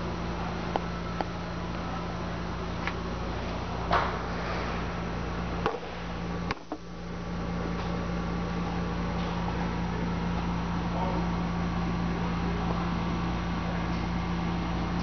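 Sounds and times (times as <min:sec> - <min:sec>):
machine low hum: 0:00.0 - 0:15.0.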